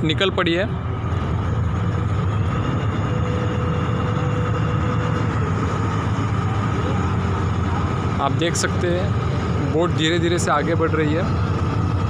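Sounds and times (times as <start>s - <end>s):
faint steady whine: 0.0s - 12.0s
ferry engine droning: 0.0s - 12.0s.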